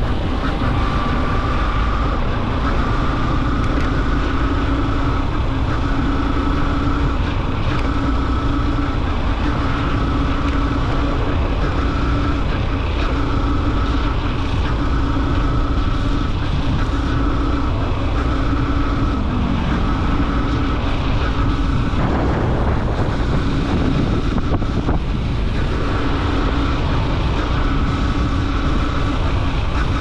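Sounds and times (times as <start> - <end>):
motorcycle engine cruising: 0.0 - 30.0
wind rushing over microphone: 0.0 - 30.0.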